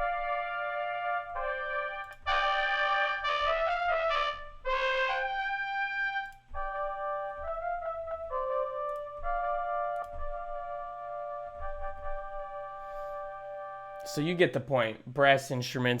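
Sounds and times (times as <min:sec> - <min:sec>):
short detached brass notes: 0:00.0 - 0:14.4
brass notes and chords: 0:00.0 - 0:14.9.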